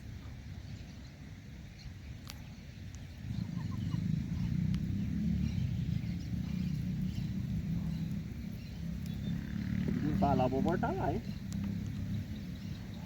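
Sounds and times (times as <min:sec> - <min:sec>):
wind buffeting microphone: 0:01.7 - 0:13.0.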